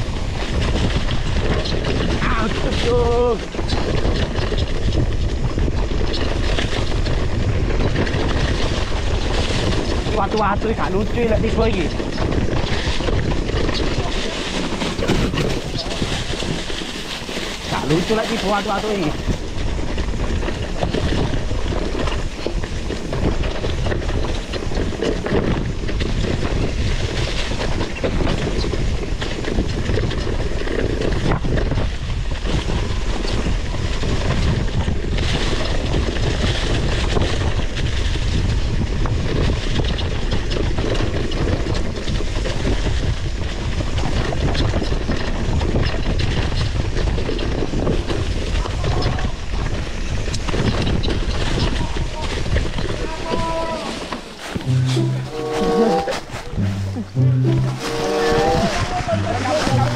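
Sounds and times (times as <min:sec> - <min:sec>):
bike chain and frame rattling: 0:00.0 - 0:53.2
bike tyres rolling over bumpy ground: 0:00.0 - 0:56.6
wind rushing over microphone: 0:00.0 - 0:59.9.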